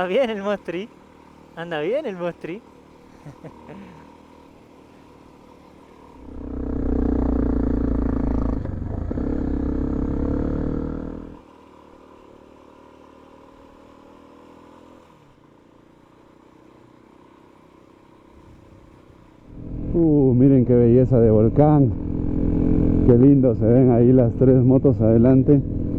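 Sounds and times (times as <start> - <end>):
faint engine drone: 0.0 - 14.2, 15.0 - 25.9
motorcycle engine accelerating: 0.0 - 25.9.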